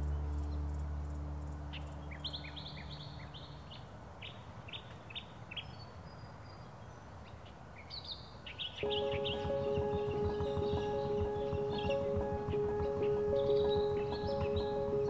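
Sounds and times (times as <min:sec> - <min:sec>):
small songbirds chirping: 0:00.0 - 0:15.0
soft outdoor hiss: 0:00.0 - 0:15.0.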